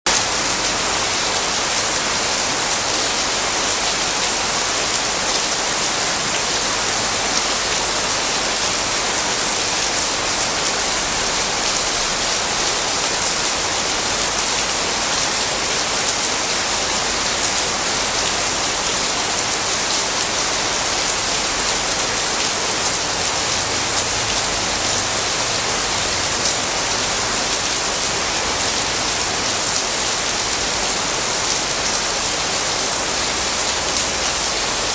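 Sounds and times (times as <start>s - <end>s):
rain falling steadily: 0.1s - 34.9s.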